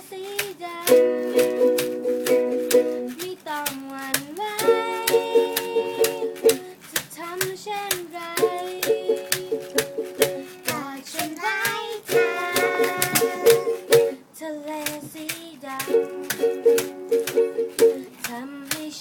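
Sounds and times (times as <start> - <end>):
ukulele strumming with melody: 0.0 - 19.0.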